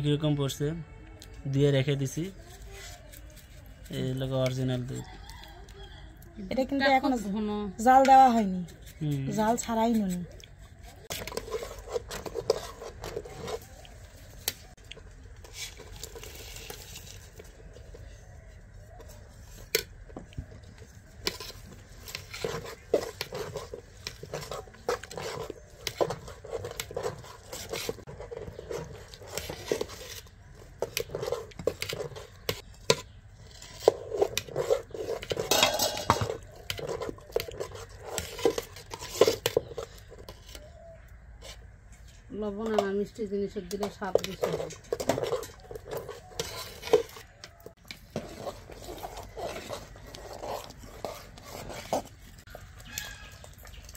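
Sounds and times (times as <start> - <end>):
metal spoon stirring in pot: 1.7 - 53.9.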